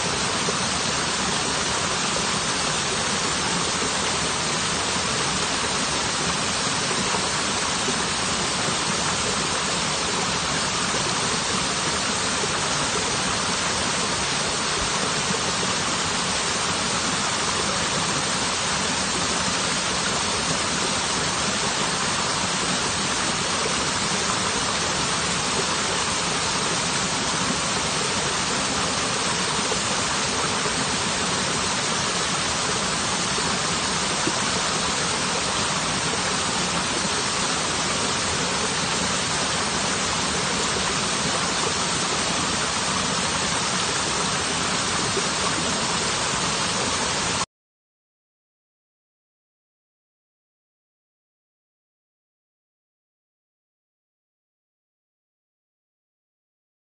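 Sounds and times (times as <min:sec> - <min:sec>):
waterfall rushing: 0:00.0 - 0:47.5.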